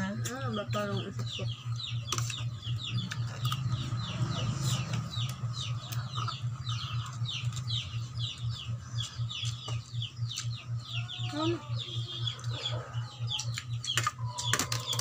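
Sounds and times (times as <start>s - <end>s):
birds peeping: 0.0s - 15.0s
low steady hum: 0.0s - 15.0s.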